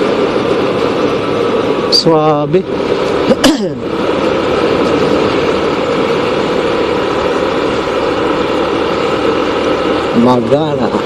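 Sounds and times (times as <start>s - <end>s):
road noise rush: 0.0s - 11.0s
vehicle engine running: 0.0s - 11.0s.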